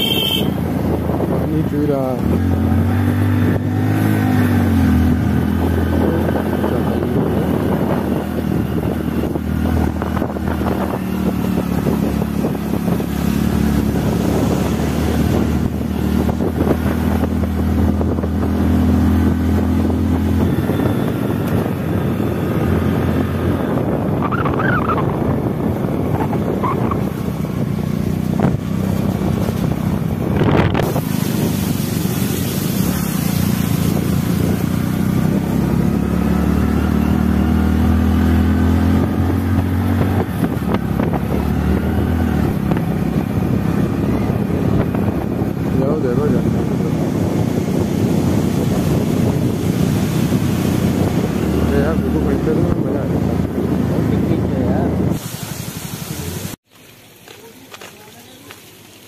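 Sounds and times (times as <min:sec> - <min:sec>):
motorcycle engine running: 0:00.0 - 0:55.1
wind rushing over microphone: 0:00.0 - 0:56.6.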